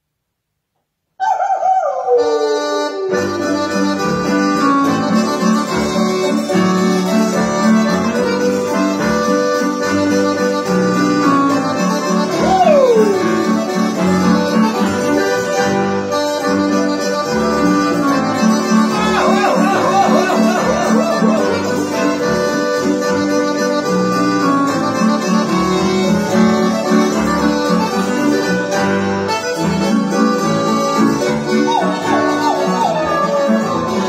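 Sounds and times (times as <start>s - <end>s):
accordion waltz tune: 2.2s - 34.0s
piano chords: 2.7s - 34.0s.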